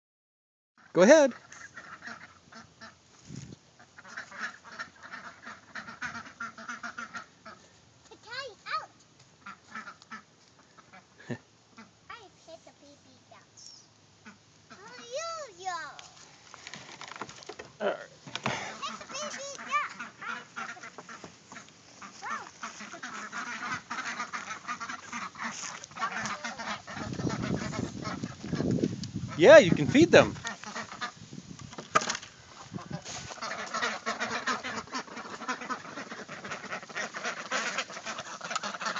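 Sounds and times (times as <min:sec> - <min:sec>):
young ducks calling: 0:00.8 - 0:03.0, 0:03.8 - 0:07.7, 0:08.3 - 0:12.0, 0:13.6 - 0:16.2, 0:18.1 - 0:31.6, 0:32.3 - 0:38.9.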